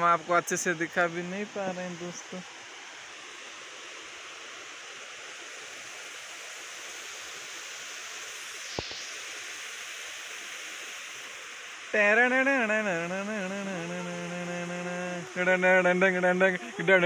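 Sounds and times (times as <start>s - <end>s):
small waterfall splashing: 0.0s - 17.0s.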